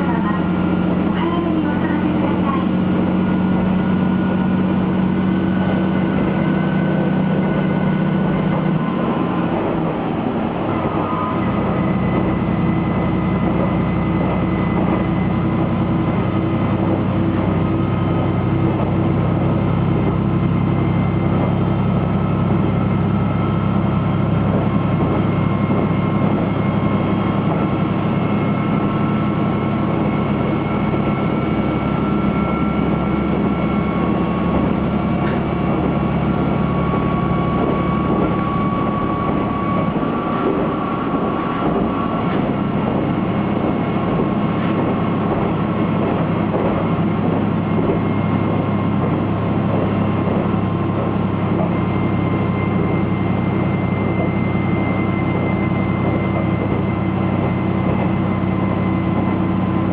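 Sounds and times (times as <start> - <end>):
diesel railcar engine drone: 0.0 - 59.9.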